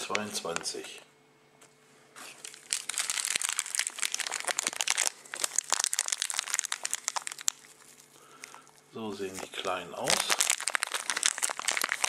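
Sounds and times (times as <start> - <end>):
plastic bag crinkling: 0.0 - 0.8, 2.2 - 12.0.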